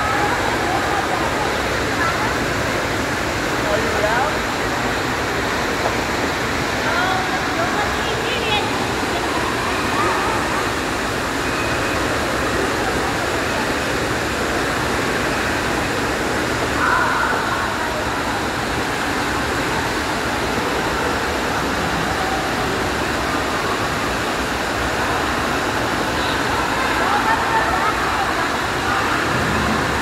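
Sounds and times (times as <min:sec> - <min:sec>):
water rushing and splashing: 0:00.0 - 0:30.0.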